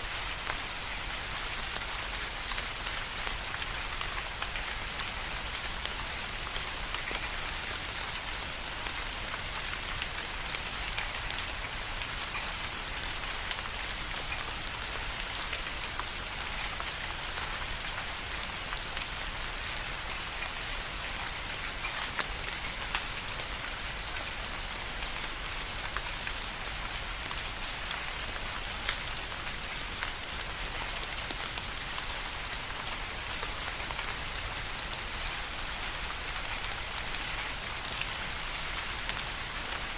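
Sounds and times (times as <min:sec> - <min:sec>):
steady rain falling: 0:00.0 - 0:39.9
raindrops pattering: 0:00.1 - 0:39.9.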